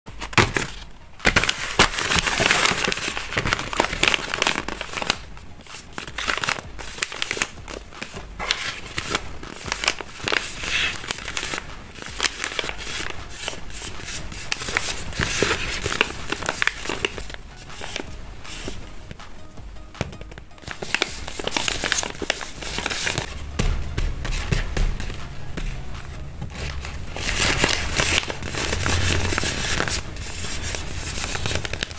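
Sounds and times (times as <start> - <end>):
paper bags crinkling and rustling: 0.1 - 18.8, 20.1 - 23.4, 24.2 - 31.9.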